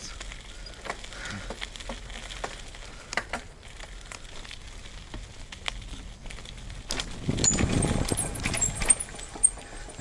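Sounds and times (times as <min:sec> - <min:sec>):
bike tyres rolling on dirt: 0:00.0 - 0:10.0
twigs and grit crackling: 0:00.0 - 0:10.0.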